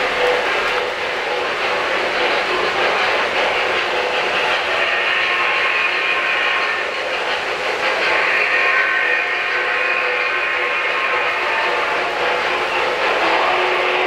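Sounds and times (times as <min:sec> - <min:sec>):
model train wheels on rails: 0:00.0 - 0:14.0.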